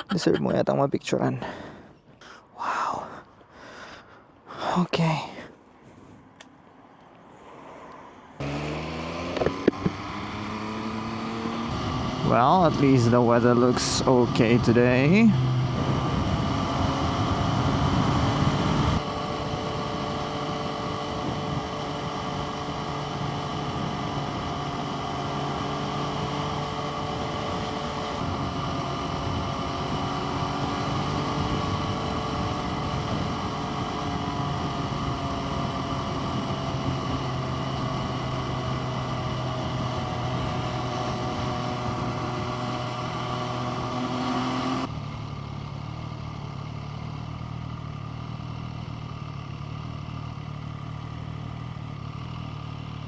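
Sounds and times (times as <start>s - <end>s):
motorcycle engine running: 8.4s - 53.0s.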